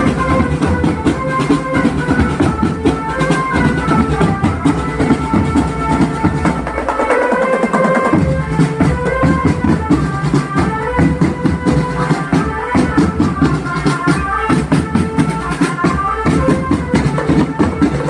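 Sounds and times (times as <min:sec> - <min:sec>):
fast marching drum beats: 0:00.0 - 0:18.0
marching band melody: 0:00.0 - 0:18.0.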